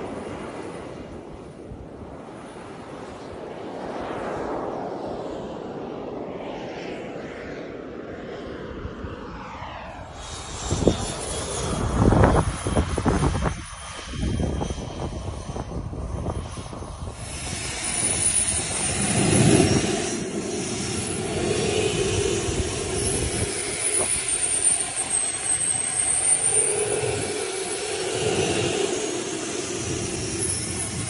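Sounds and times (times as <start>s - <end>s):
model jet passing with a rush: 0.0s - 31.0s
turbine whining steadily: 0.0s - 31.0s.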